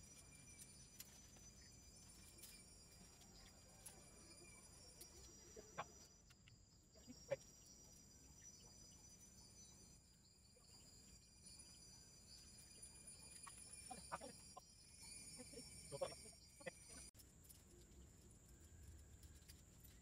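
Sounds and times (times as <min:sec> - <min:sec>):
high-pitched insect trilling: 0:00.0 - 0:17.1.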